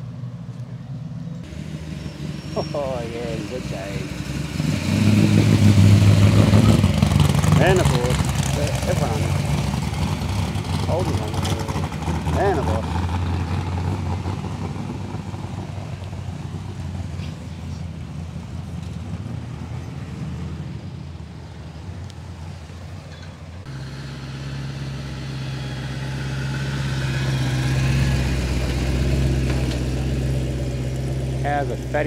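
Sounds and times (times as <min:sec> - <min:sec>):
cars driving slowly past: 0:00.0 - 0:32.0
engine with steady low note: 0:00.0 - 0:32.0.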